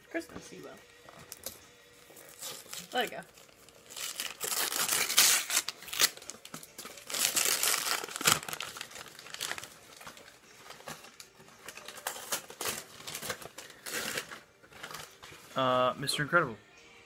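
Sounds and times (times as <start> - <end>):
wrapping paper crumpling: 1.2 - 15.6.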